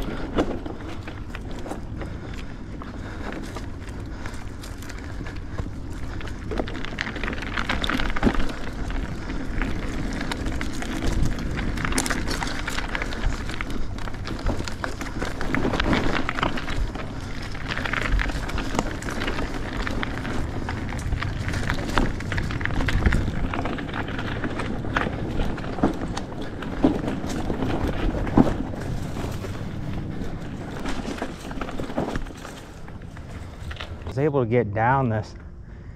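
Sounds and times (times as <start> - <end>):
bike knocking and rattling: 0.0 - 34.2
tyres rumbling on dirt: 0.0 - 35.3.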